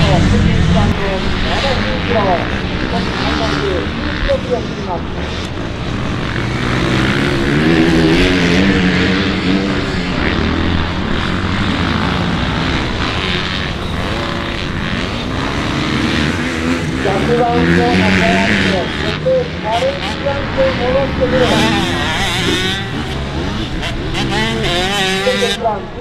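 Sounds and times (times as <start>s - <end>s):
motocross bikes racing: 0.0s - 26.0s.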